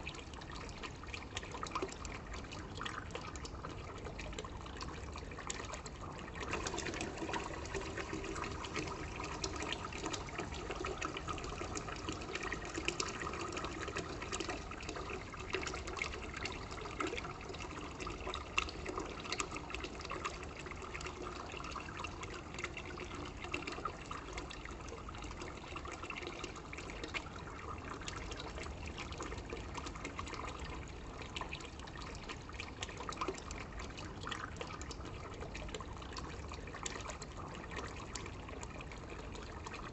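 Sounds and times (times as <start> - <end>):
water pouring into seeds: 0.0 - 39.9.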